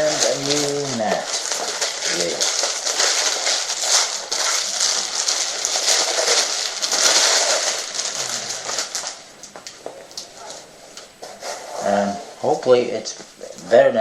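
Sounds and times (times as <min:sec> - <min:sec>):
packaging crinkling: 0:00.0 - 0:13.7.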